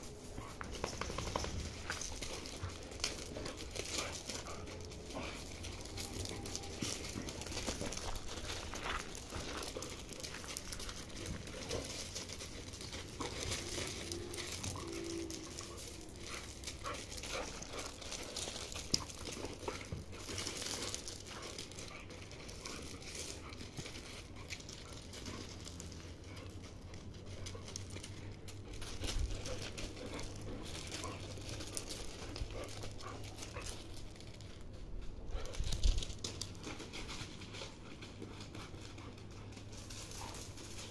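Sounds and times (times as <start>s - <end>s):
paws scuffing on gravel: 0.0s - 40.9s.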